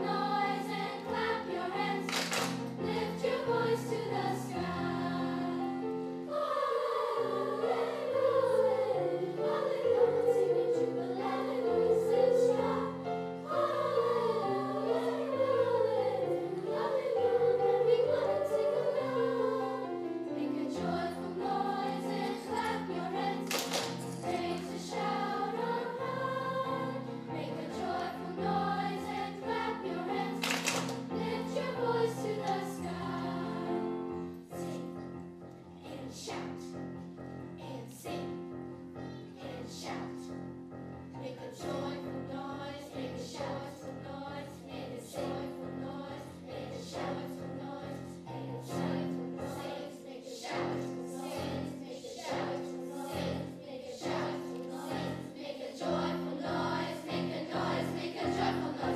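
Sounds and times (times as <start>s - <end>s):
piano accompaniment: 0.0s - 44.6s, 45.2s - 58.9s
children's choir singing: 0.0s - 58.9s.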